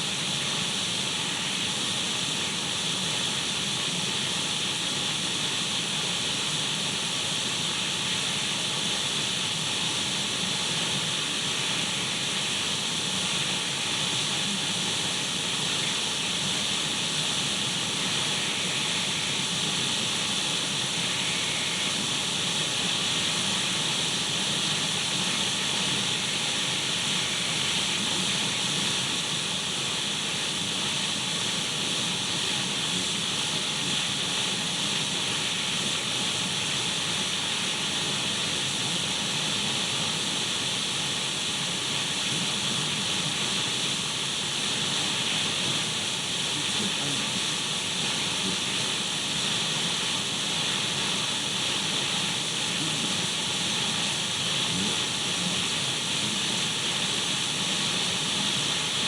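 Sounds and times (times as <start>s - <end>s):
radio static hiss: 8.0s - 59.0s.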